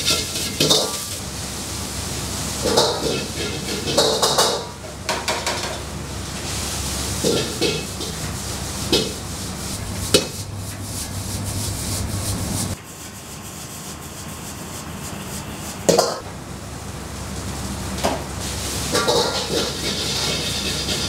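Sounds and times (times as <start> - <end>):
ladle scraping wok: 0.0 - 1.2, 2.4 - 16.2, 18.4 - 21.0
gas burner rush: 0.0 - 21.0.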